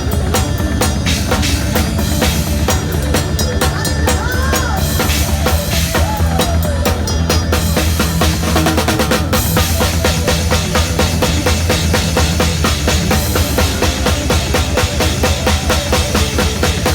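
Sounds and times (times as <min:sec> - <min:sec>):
bass line: 0:00.0 - 0:16.9
drum kit: 0:00.0 - 0:16.9.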